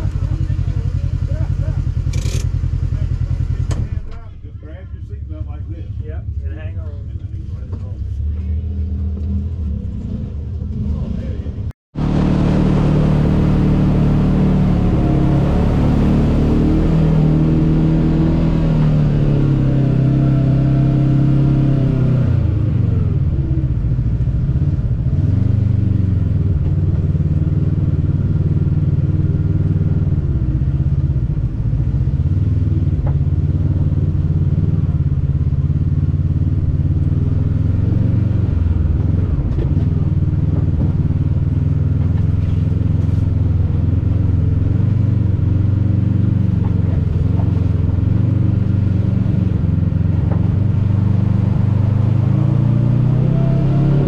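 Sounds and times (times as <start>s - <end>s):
off-road vehicle engine under load: 0.0s - 54.0s.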